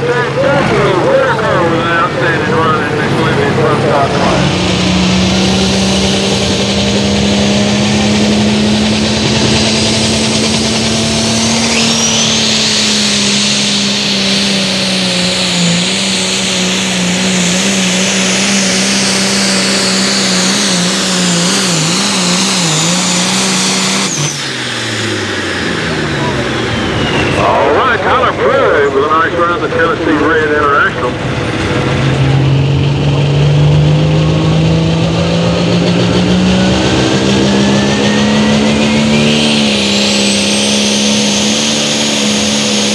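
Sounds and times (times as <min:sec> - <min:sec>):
diesel engine at full throttle: 0:00.0 - 0:42.9
high turbo whine: 0:00.0 - 0:42.9.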